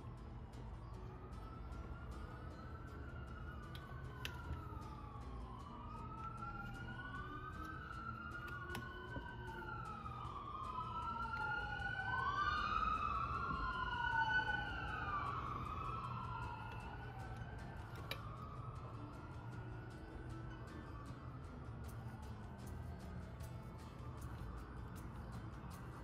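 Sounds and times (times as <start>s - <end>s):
emergency sirens wailing: 0.0s - 26.0s.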